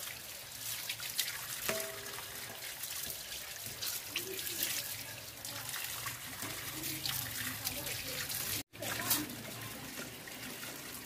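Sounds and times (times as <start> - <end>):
water splashing on concrete: 0.0 - 11.0.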